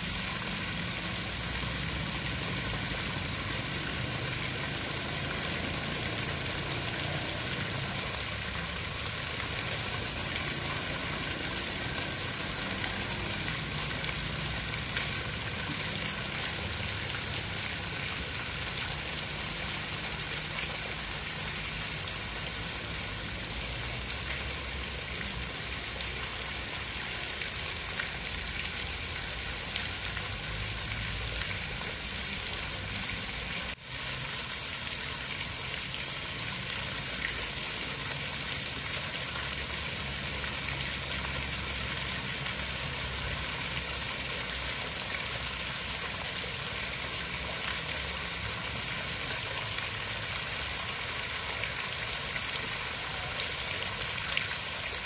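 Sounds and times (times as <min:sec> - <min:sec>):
hiss of rushing water: 0:00.0 - 0:55.0.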